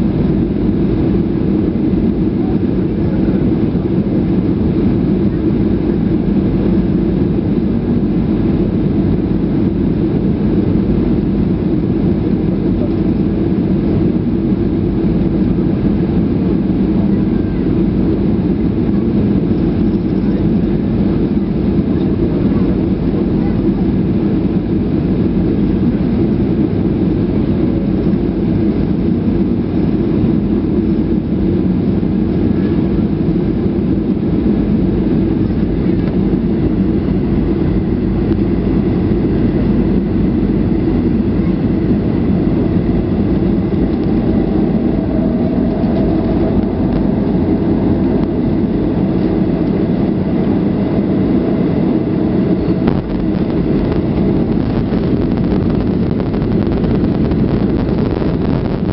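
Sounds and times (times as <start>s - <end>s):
airliner cabin roar: 0.0s - 58.9s
faint higher hum: 0.0s - 58.9s.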